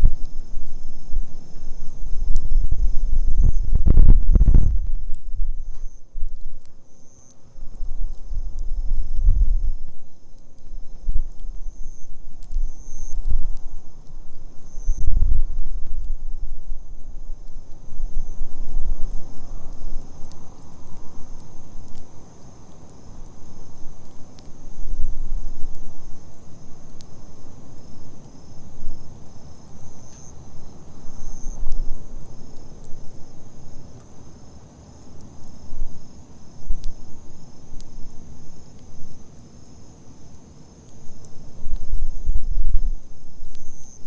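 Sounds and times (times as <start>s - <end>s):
campfire crackling and popping: 0.0s - 44.0s
insects chirping: 0.0s - 44.0s
low fire rumble: 0.0s - 44.0s.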